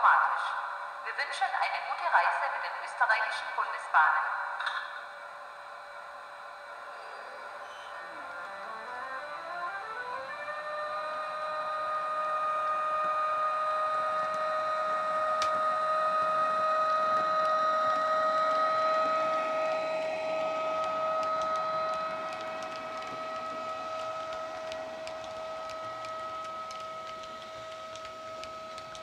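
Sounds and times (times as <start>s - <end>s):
electric locomotive traction whine: 0.0s - 3.9s, 4.6s - 29.0s.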